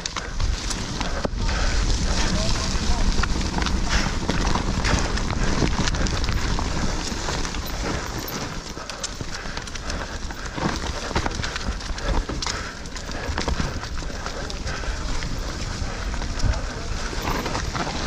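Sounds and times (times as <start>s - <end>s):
bike frame and chain rattling: 0.0s - 18.0s
bike tyres rumbling on dirt: 0.0s - 18.0s.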